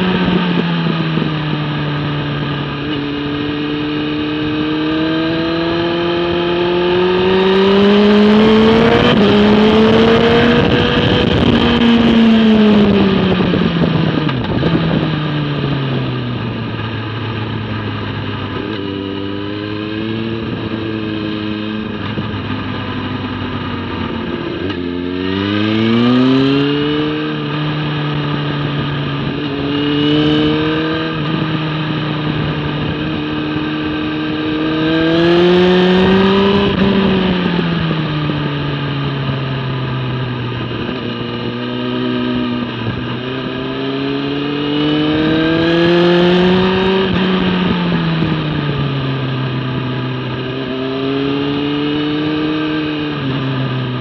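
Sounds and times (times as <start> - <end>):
motorcycle engine revving: 0.0 - 54.0
wind rush over microphone: 0.0 - 54.0.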